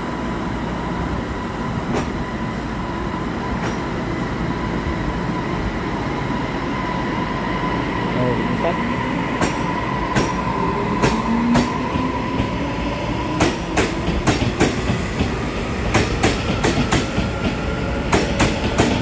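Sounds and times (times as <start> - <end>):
electric train whine: 0.0 - 19.0.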